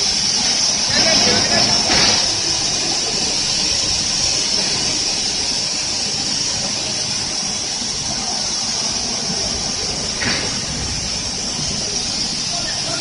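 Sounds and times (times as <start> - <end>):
machinery hiss and rumble: 0.0 - 13.0.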